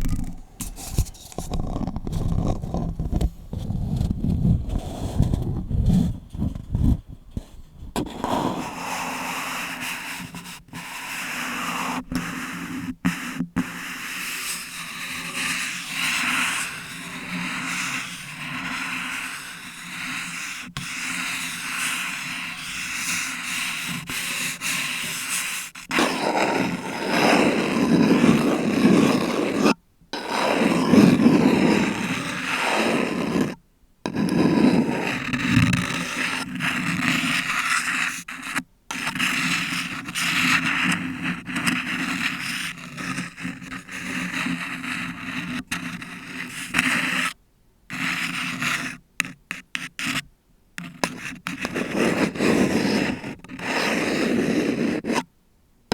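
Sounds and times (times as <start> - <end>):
nails scratching on paper cup: 0.0 - 55.3.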